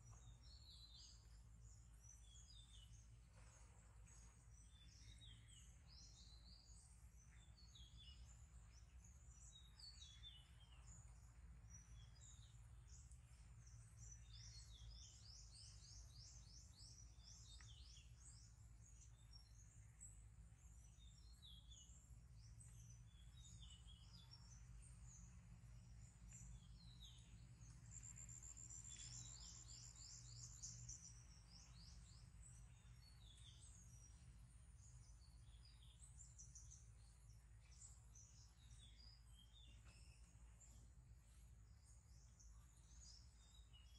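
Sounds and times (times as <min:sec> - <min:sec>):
birds chirping: 0:00.0 - 0:43.9
low background rumble: 0:00.0 - 0:43.9.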